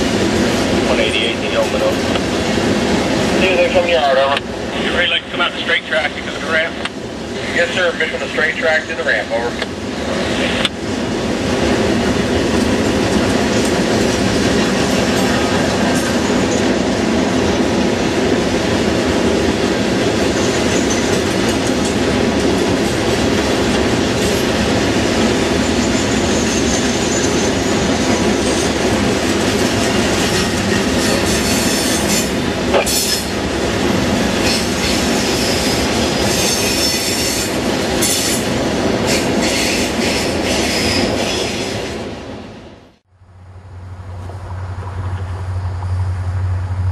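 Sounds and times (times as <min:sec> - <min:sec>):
train cars rumbling on rails: 0:00.0 - 0:46.9.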